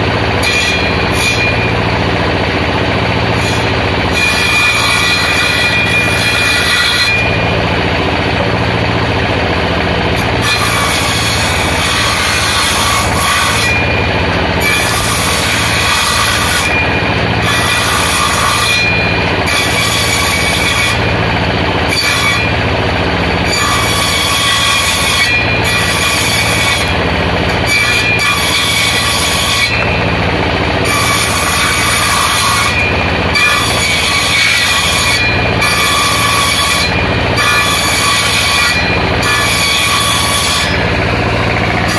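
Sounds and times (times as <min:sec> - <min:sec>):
circular saw cutting wood: 0:00.0 - 0:41.9
low motor hum: 0:00.0 - 0:41.9.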